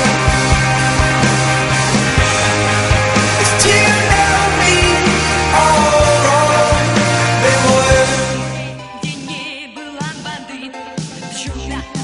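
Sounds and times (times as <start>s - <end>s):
rock song with singing: 0.0s - 12.0s.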